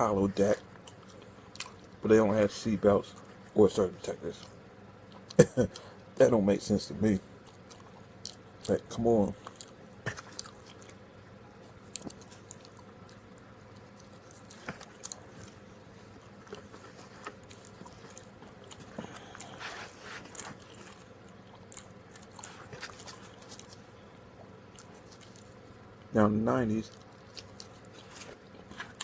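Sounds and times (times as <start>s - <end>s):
person chewing pizza: 0.2s - 6.1s, 7.1s - 26.1s, 26.8s - 29.0s.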